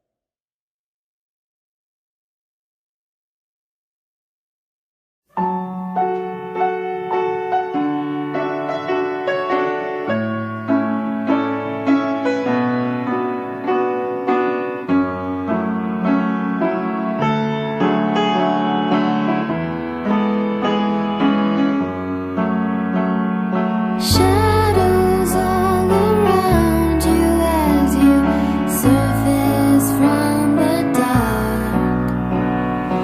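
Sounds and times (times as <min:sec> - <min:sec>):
piano chords: 0:05.3 - 0:33.0.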